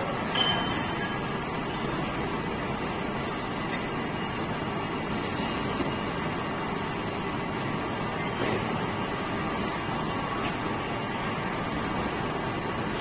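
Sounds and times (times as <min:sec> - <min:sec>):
conveyor machine rumble and hiss: 0:00.0 - 0:13.0.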